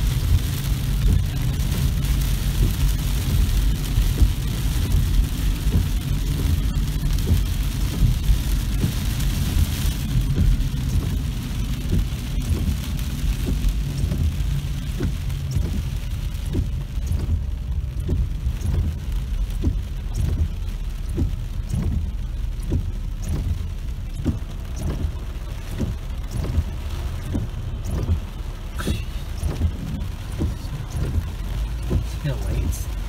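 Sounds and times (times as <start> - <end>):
heavy rain on car roof: 0.0 - 33.0
raindrops ticking on car: 0.0 - 33.0
wind and road noise: 0.0 - 33.0.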